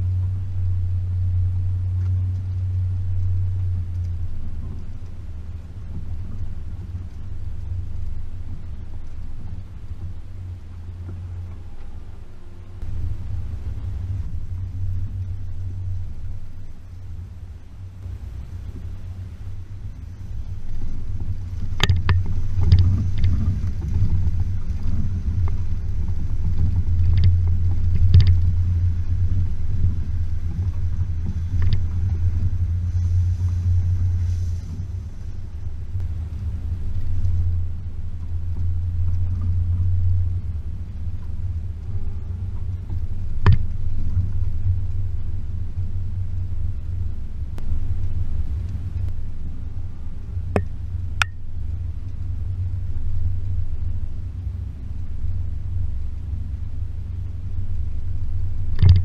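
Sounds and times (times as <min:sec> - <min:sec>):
body and suspension rattling: 0:00.0 - 0:59.0
car engine rumbling: 0:00.0 - 0:59.0.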